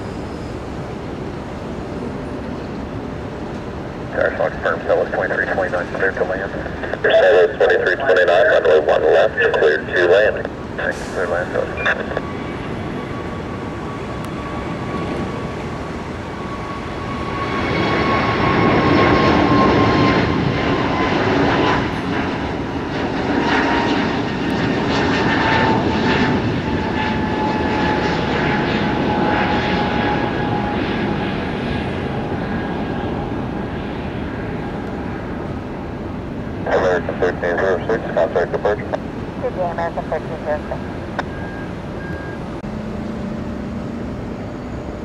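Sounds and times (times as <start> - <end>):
jet airliner engines passing: 0.0 - 45.0
jet engine whine falling in pitch: 0.0 - 45.0.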